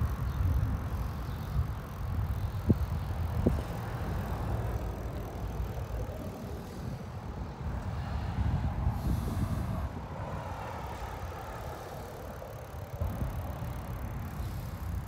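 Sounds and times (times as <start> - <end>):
bicycle rolling noise: 0.0 - 15.0
low rumbling wind: 0.0 - 15.0.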